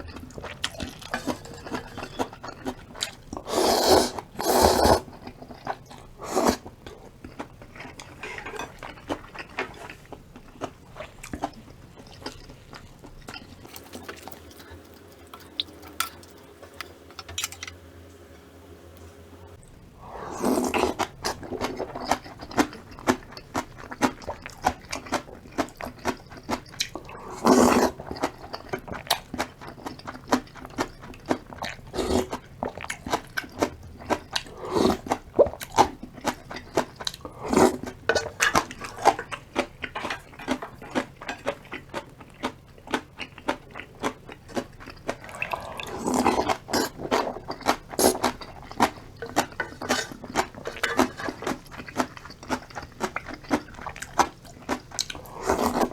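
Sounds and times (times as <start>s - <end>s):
wet chewing and crunching: 0.0s - 17.7s, 19.6s - 55.9s.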